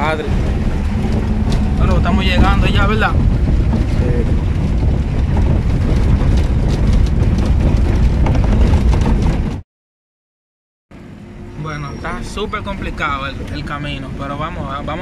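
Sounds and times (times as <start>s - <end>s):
vehicle rumbling on rough road: 0.0s - 9.6s, 10.9s - 15.0s.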